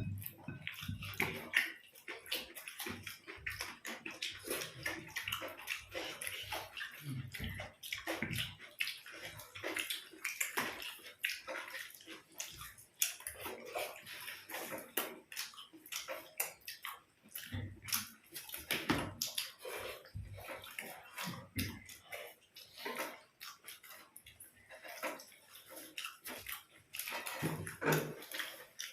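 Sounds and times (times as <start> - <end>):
people chewing with lip smacks: 0.0 - 28.9.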